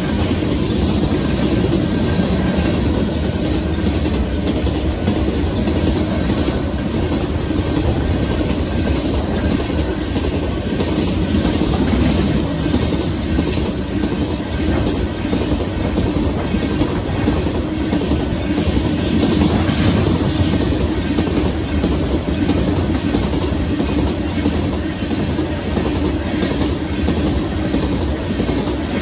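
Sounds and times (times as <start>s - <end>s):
freight train wheels on rails: 0.0s - 29.0s.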